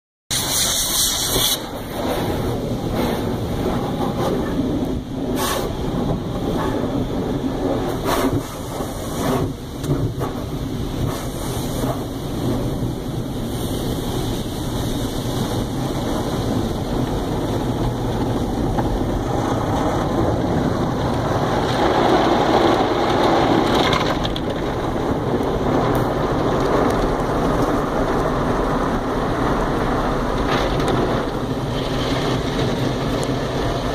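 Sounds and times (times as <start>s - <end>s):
car wash water jets rushing: 0.3s - 33.9s.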